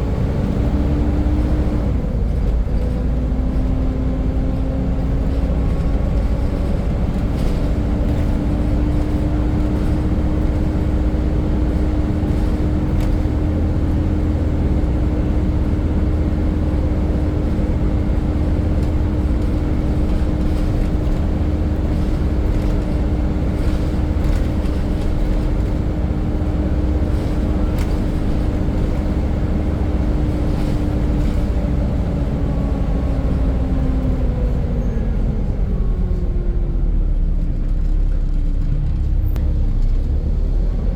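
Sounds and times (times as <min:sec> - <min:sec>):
bus engine whine and rumble: 0:00.0 - 0:40.9.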